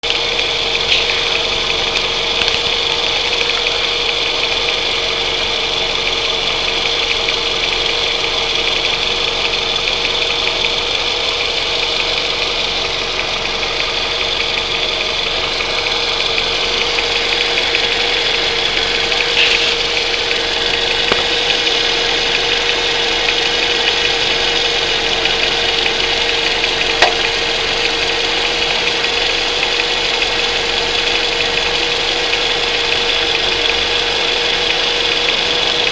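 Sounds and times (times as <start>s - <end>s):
car engine idling: 0.0s - 35.9s
tensioner pulley knocking: 5.5s - 35.9s.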